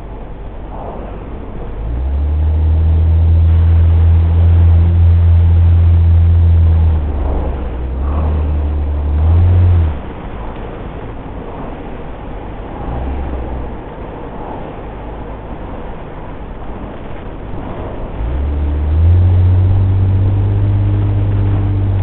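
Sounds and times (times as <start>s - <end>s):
low engine drone: 0.0s - 22.0s
road noise inside car: 0.0s - 22.0s.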